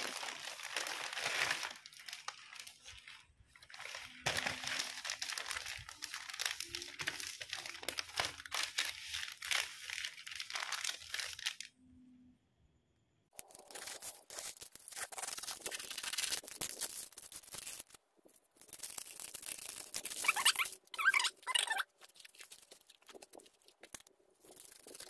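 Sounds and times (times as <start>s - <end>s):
wrapping paper crinkling and rustling: 0.0s - 11.7s, 13.4s - 25.0s.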